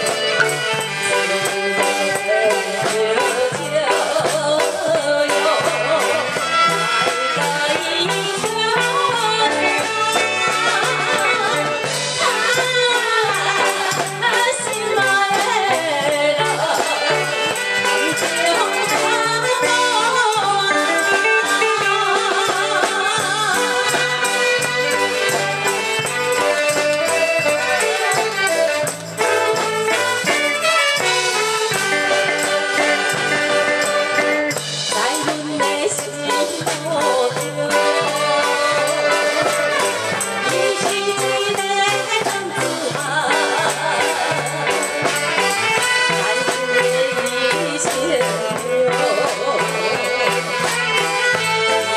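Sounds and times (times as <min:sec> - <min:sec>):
live band playing pop song: 0:00.0 - 0:51.9.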